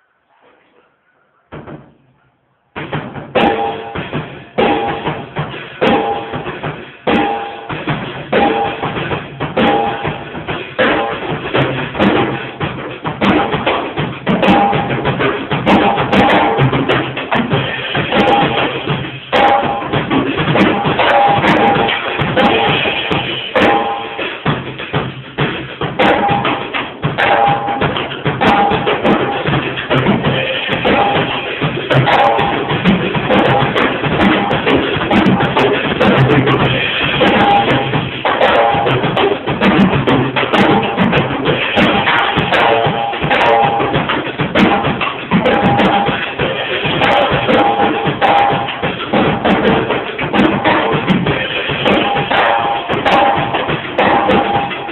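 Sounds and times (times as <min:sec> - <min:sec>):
drum kit playing: 0:02.7 - 0:54.9.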